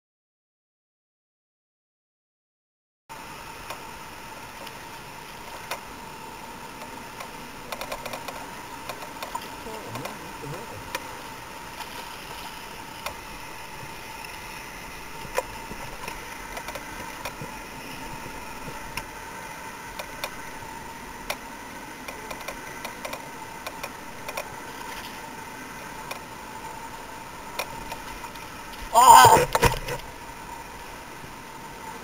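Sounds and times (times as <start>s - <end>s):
faint hum: 3.1s - 32.0s
steady hiss: 3.1s - 32.0s.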